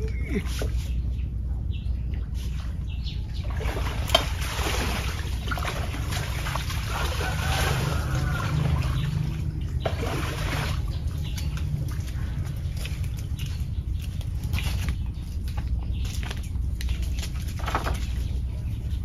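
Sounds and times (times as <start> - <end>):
steady low hum: 0.0 - 19.0
water trickling and splashing: 1.9 - 19.0.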